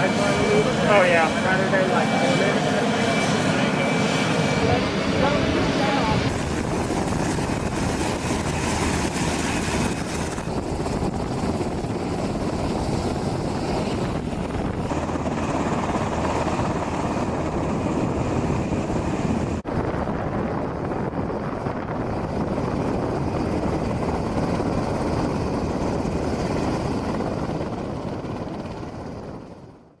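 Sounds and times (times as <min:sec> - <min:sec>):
helicopter running: 0:00.0 - 0:30.0.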